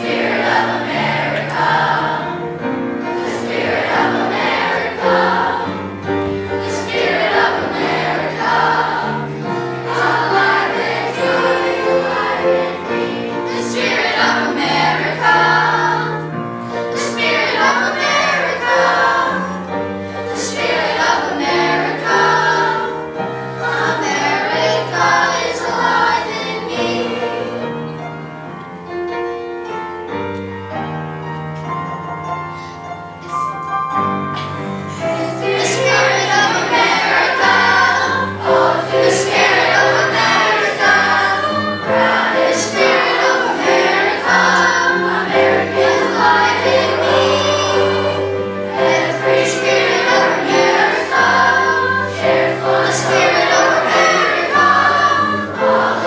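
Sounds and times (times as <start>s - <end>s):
children's choir singing: 0.0s - 56.0s
instrumental accompaniment: 0.0s - 56.0s.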